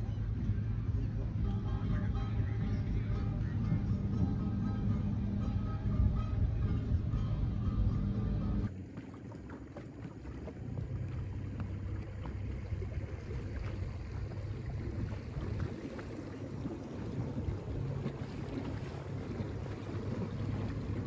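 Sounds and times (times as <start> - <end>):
wind buffeting microphone: 0.0 - 8.8, 10.0 - 21.0.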